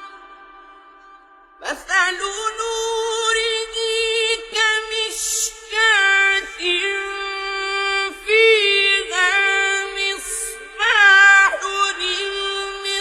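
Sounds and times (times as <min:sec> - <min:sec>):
person reciting melodically: 0:00.0 - 0:13.0.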